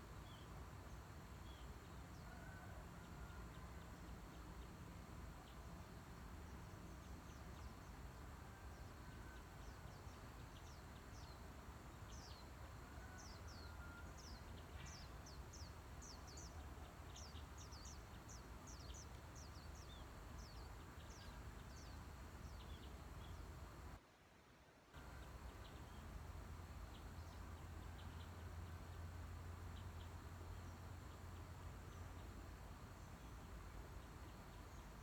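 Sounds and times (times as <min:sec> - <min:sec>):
low rumble of wind: 0:00.0 - 0:24.1, 0:24.8 - 0:35.0.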